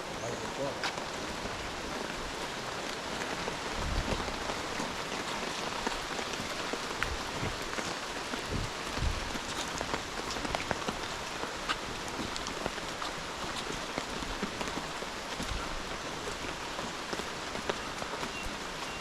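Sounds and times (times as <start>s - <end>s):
rain on foliage: 0.0s - 19.0s.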